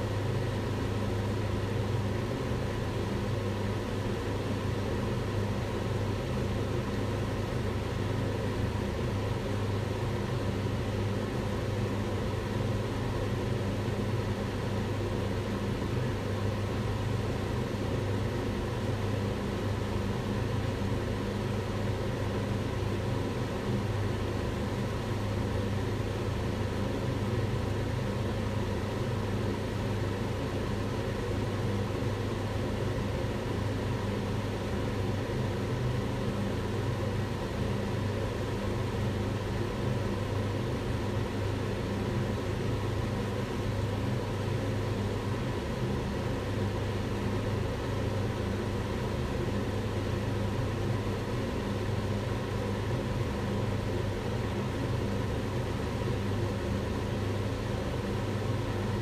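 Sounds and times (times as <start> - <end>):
range hood fan humming: 0.0 - 59.0.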